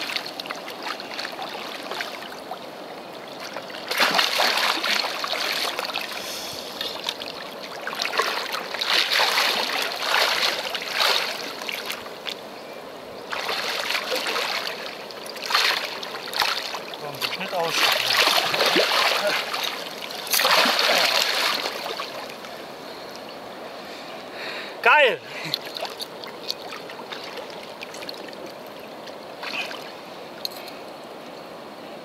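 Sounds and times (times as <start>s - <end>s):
water splashing and sloshing: 0.0s - 24.0s, 24.9s - 31.0s.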